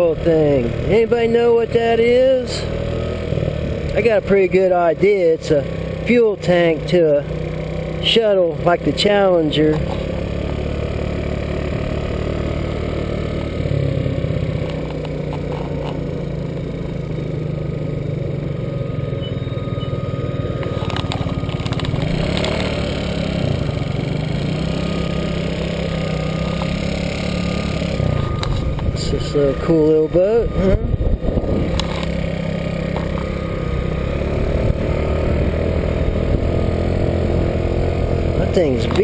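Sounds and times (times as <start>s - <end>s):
motor scooter engine revving: 0.0s - 39.0s.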